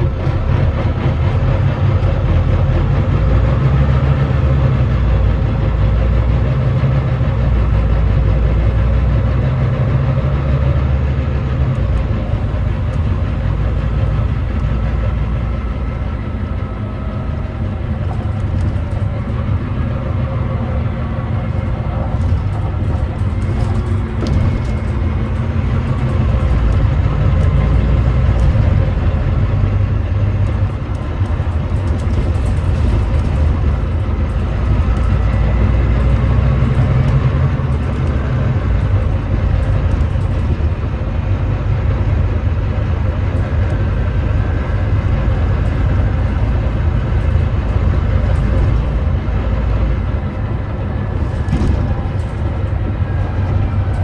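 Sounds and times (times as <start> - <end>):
diesel bus engine droning: 0.0 - 54.0
road noise: 0.0 - 54.0.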